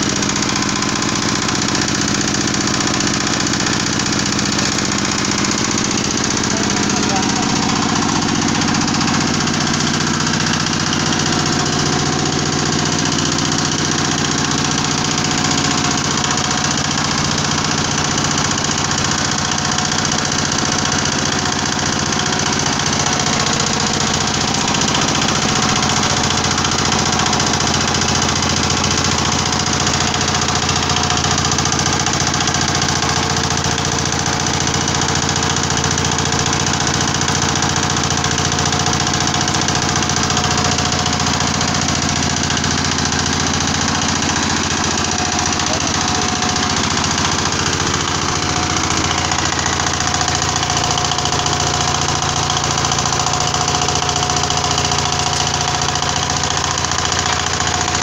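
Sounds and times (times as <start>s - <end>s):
screw press running: 0.0s - 58.0s.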